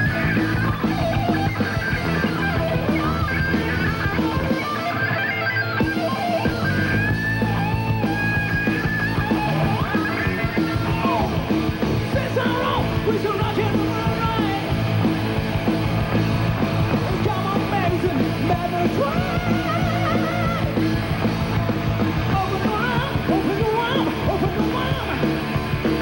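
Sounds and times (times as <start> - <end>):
electric guitar lead bends: 0.0 - 26.0
rock band playing live: 0.0 - 26.0.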